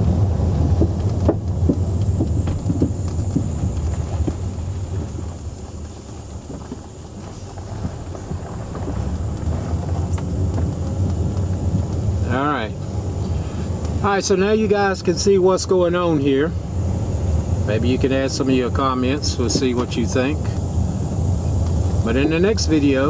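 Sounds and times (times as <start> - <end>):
road and wind rumble in car: 0.0 - 23.0.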